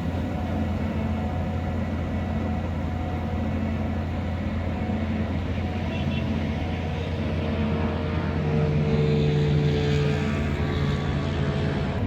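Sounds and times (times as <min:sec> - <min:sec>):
bulldozer diesel engine droning: 0:00.0 - 0:12.0.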